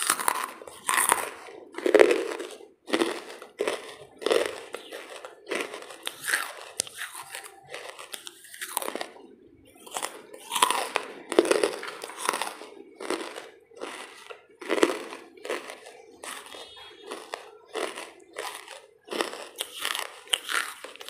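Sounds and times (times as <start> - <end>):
person crunching charcoal: 0.0 - 21.0.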